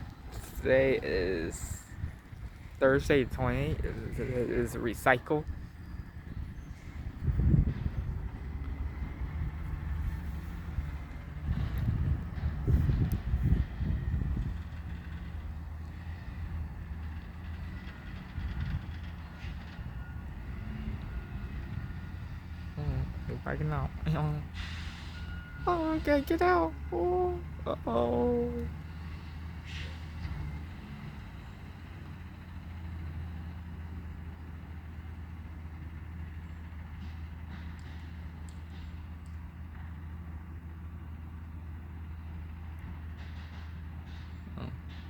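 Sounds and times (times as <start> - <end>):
truck diesel engine rumbling: 0.0 - 45.0.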